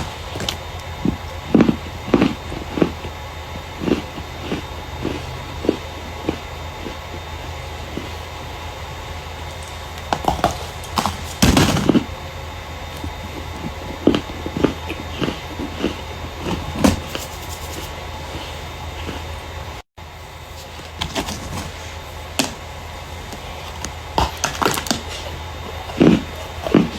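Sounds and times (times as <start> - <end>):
starch crackling and crunching: 0.0 - 8.3, 9.5 - 19.3, 20.4 - 26.9
steady low hum: 0.0 - 26.9.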